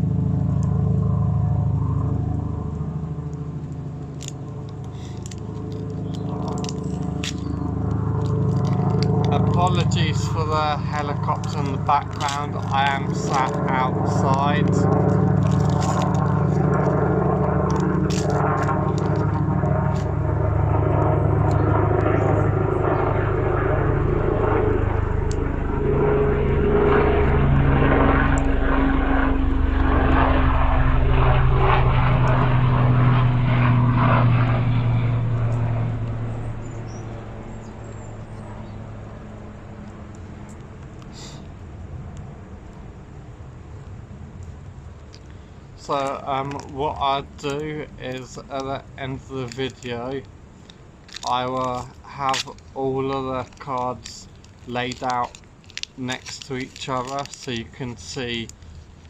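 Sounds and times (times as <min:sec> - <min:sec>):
helicopter drone: 0:00.0 - 0:59.0.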